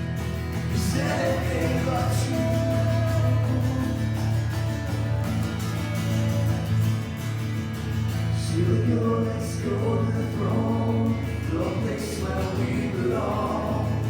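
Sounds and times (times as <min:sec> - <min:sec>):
group of voices singing: 0:00.6 - 0:07.2, 0:08.4 - 0:14.0.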